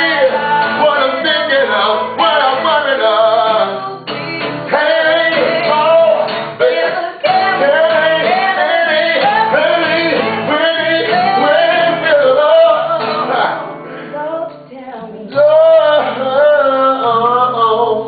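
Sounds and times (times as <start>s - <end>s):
guitar and band backing: 0.0s - 18.0s.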